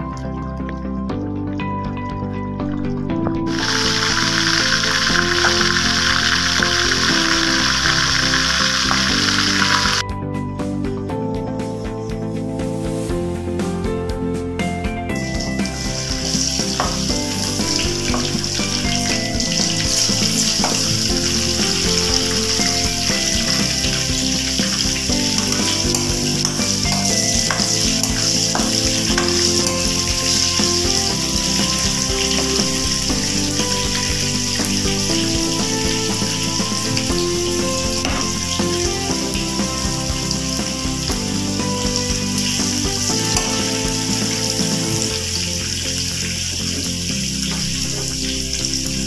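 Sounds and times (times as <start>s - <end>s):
food sizzling in hot oil: 3.5s - 10.0s, 15.2s - 49.0s.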